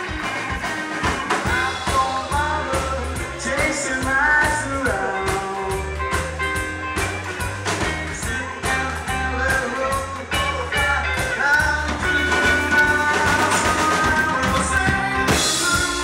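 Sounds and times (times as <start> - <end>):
rock and roll band music: 0.0 - 16.0.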